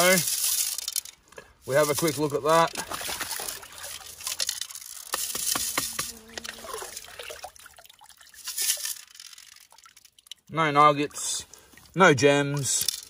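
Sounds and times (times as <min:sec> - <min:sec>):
water sloshing and dripping: 0:00.3 - 0:13.0.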